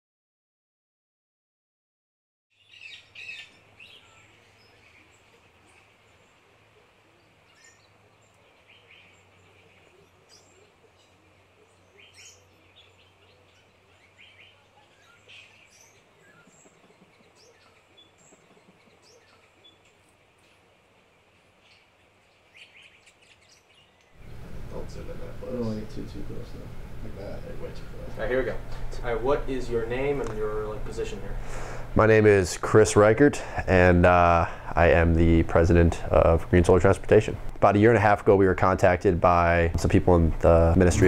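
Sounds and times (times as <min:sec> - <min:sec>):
birds chirping: 0:02.5 - 0:41.0
faint low hum: 0:02.6 - 0:41.0.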